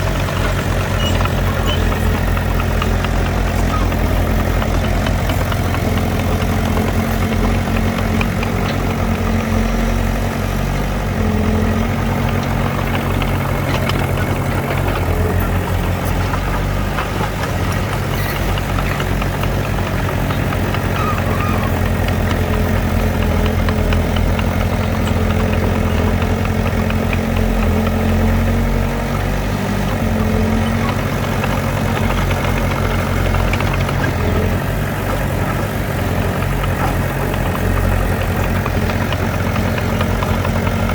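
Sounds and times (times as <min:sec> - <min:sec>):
heavy diesel engines running: 0:00.0 - 0:40.9.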